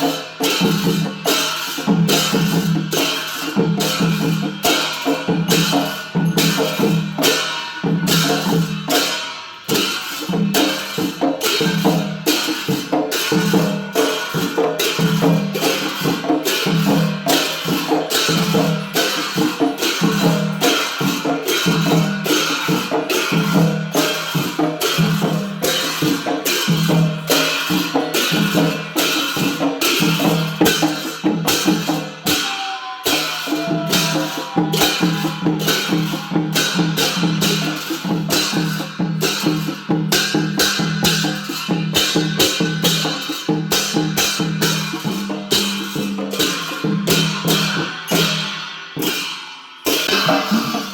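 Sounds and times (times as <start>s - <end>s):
cymbals clashing: 0.0s - 50.9s
drums beating: 0.0s - 50.9s.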